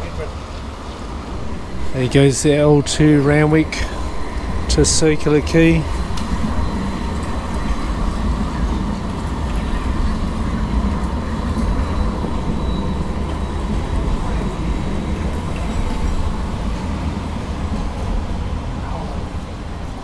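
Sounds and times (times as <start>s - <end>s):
traffic noise: 0.0s - 20.0s
tram rumbling past: 0.0s - 20.0s.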